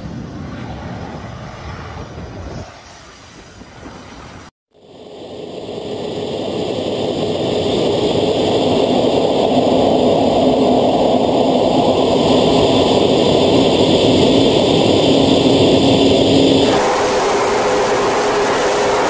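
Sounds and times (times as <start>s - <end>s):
jet engine and airflow rushing: 0.0s - 19.0s.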